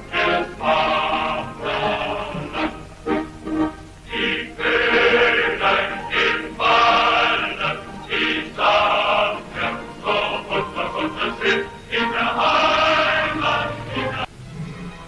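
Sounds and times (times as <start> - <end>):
music with choir singing: 0.0 - 15.0.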